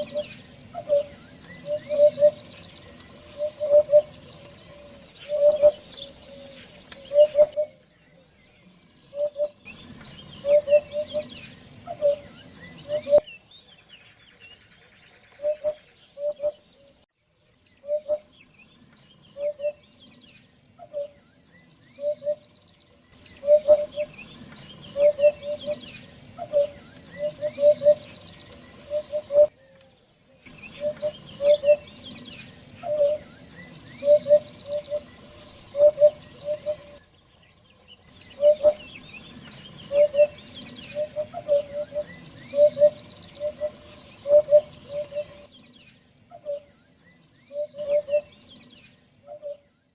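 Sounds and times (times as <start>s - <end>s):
hoopoe low hooting: 0.0s - 13.3s, 17.8s - 49.7s
small birds chirping: 0.0s - 49.9s.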